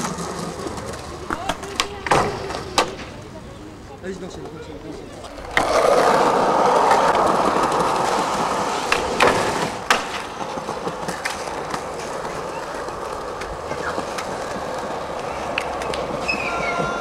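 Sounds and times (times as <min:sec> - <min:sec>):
skateboard clacks: 0:00.0 - 0:03.3, 0:04.4 - 0:17.0
skateboard wheels rolling on concrete: 0:00.0 - 0:17.0.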